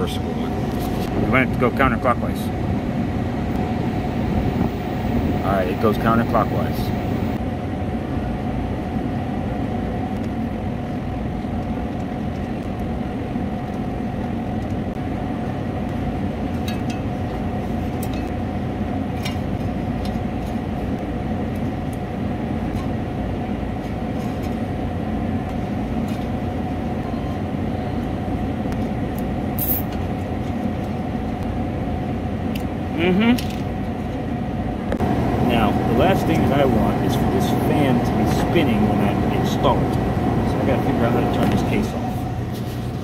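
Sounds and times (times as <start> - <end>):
refrigeration machinery humming: 0.0 - 43.0.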